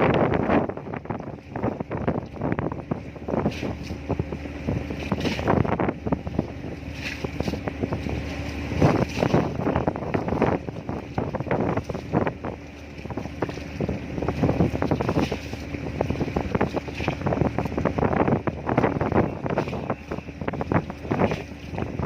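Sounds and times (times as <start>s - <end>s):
boat engine hum: 0.0s - 22.0s
wind buffeting microphone: 0.0s - 22.0s.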